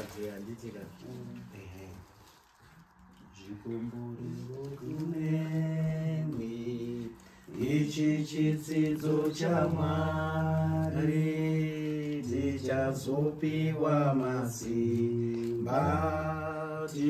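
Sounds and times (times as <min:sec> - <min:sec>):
voices singing a chant-like song: 0:03.3 - 0:17.0.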